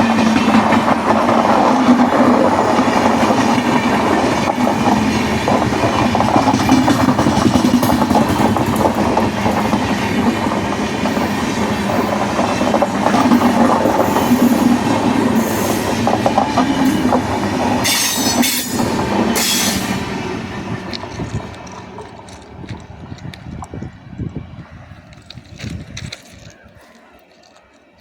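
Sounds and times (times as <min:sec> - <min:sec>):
train wheels rumbling and clattering: 0:00.0 - 0:26.6.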